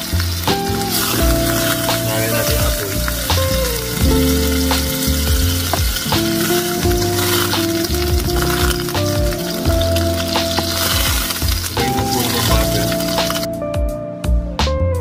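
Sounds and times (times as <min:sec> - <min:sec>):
butter sizzling in a frying pan: 0:00.0 - 0:13.5
background music: 0:00.0 - 0:15.0.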